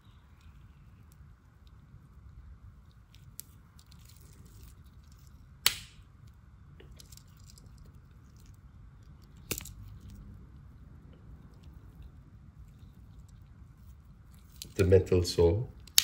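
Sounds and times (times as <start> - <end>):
faint handling noise: 0.0 - 5.6, 6.2 - 16.0.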